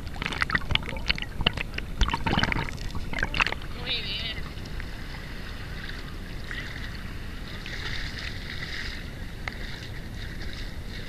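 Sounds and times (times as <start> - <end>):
small surf waves washing: 0.0 - 11.0
wind rumbling on microphone: 0.0 - 11.0.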